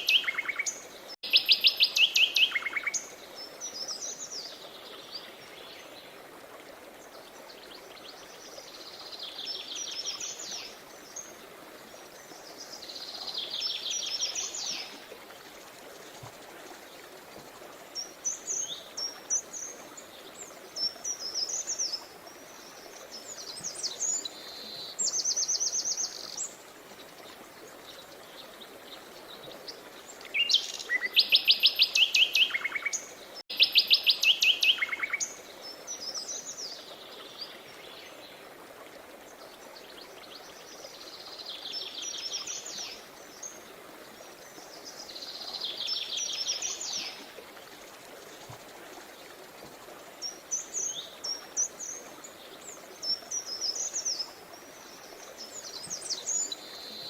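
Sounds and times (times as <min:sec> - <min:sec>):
songbirds singing: 0:00.0 - 0:06.2, 0:07.0 - 0:38.5, 0:39.2 - 0:57.0
flowing river water: 0:00.0 - 0:57.0.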